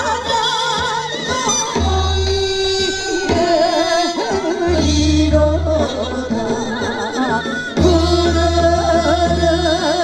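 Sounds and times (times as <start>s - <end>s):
instrumental accompaniment: 0.0s - 10.0s
women singing folk song: 0.0s - 10.0s.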